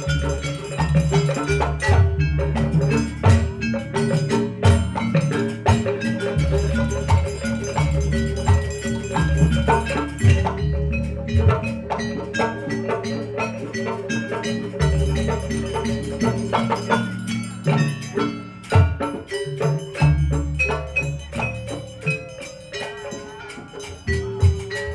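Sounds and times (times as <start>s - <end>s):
metallophones playing melody: 0.0s - 24.9s.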